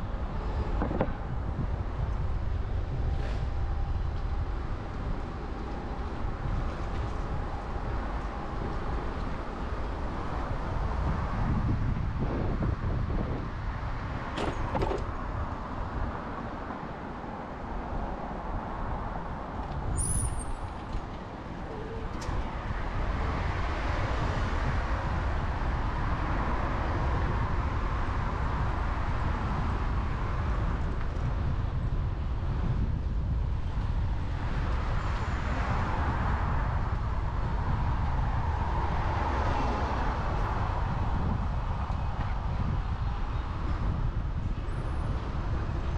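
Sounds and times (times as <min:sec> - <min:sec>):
passing cars rumble: 0:00.0 - 0:45.9.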